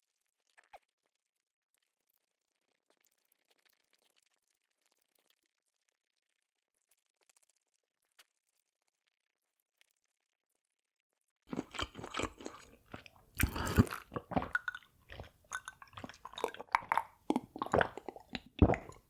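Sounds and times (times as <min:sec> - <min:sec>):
chewing and crunching food: 0:00.0 - 0:10.2, 0:11.5 - 0:19.0.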